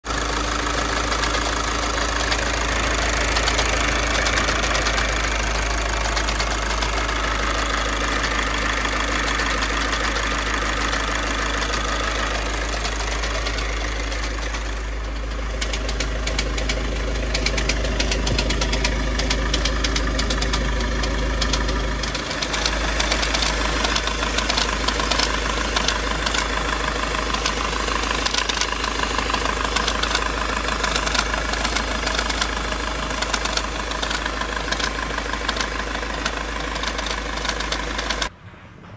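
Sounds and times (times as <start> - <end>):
diesel engine idling with rattle: 0.0 - 38.9.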